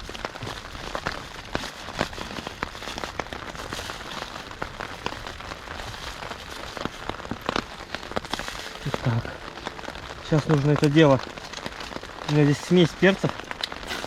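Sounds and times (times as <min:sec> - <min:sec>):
heavy rain drumming on a tarp: 0:00.0 - 0:14.0.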